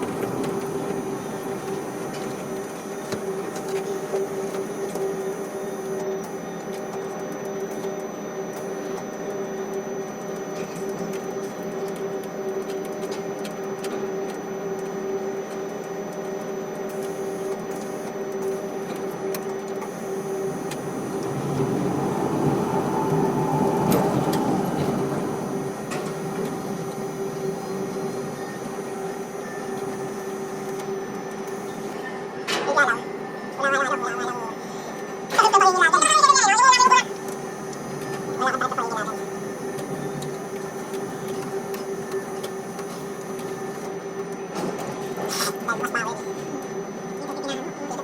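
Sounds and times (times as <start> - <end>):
crane machinery hum: 0.0 - 48.0.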